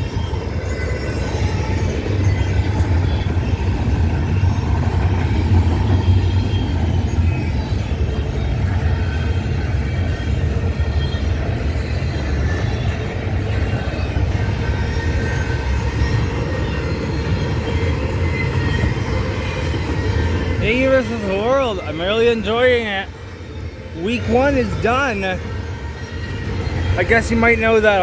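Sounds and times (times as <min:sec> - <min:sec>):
freight train rumbling on rails: 0:00.0 - 0:28.0
high wheel squeal: 0:00.0 - 0:28.0.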